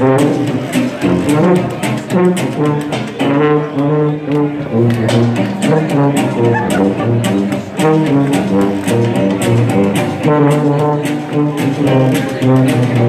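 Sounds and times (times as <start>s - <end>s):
jazz band playing: 0.0s - 13.0s.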